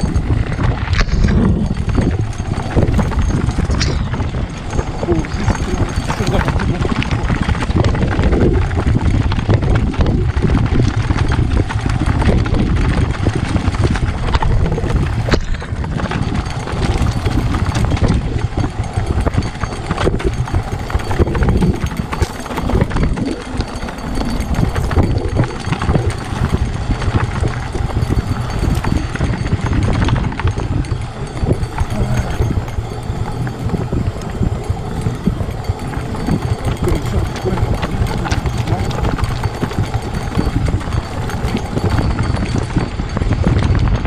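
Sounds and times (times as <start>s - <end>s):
bike rattling over bumps: 0.0s - 44.0s
wind rushing on microphone: 0.0s - 44.0s.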